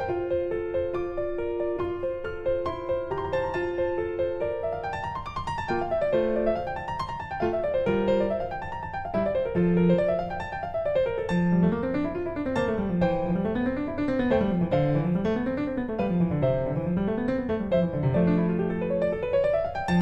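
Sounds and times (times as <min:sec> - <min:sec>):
piano arpeggios: 0:00.0 - 0:20.0.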